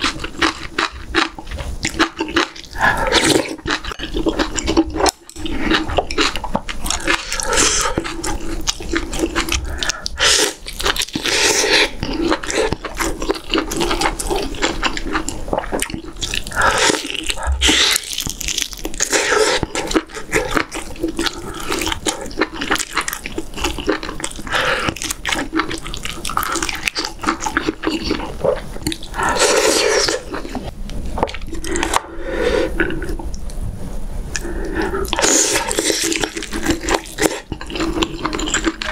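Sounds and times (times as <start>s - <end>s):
wet chewing and slurping: 0.0s - 33.6s, 34.3s - 38.9s.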